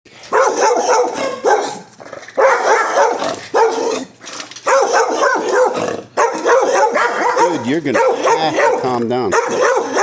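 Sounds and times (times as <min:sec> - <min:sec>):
dog barking: 0:00.3 - 0:10.0.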